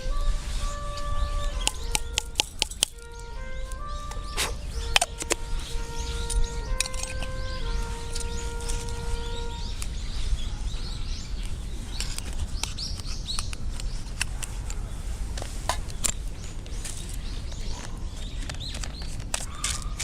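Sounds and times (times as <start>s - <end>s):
steady low rumble: 0.0s - 19.6s
sharp crackles: 0.0s - 20.0s
small birds chirping: 0.0s - 20.0s.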